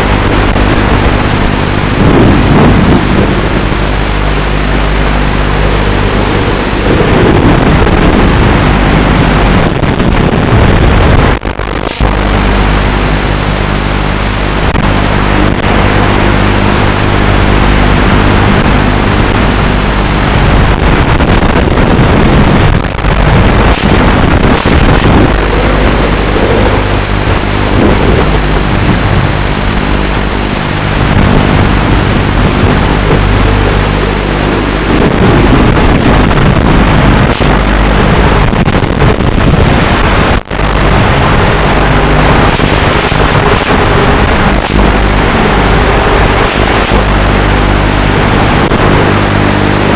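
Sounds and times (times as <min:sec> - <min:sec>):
drone motor noise: 0:00.0 - 0:49.9
wind rush: 0:00.0 - 0:49.9.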